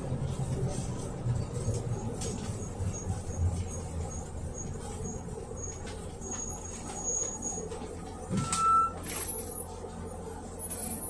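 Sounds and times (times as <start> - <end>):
bus engine running: 0.0 - 11.0
road and body rattle: 0.0 - 11.0.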